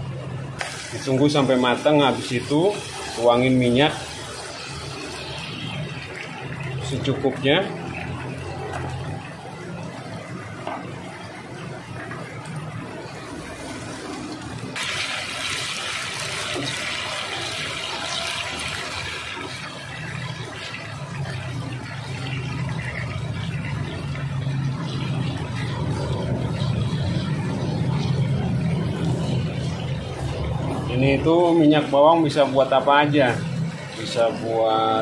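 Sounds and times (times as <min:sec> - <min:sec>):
skin frying in hot oil: 0:00.0 - 0:35.0.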